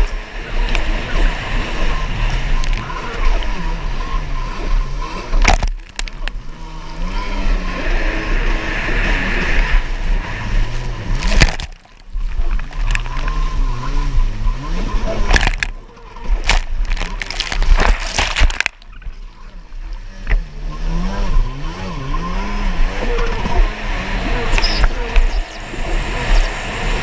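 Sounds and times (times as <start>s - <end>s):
jet ski engine revving: 0.0s - 27.0s.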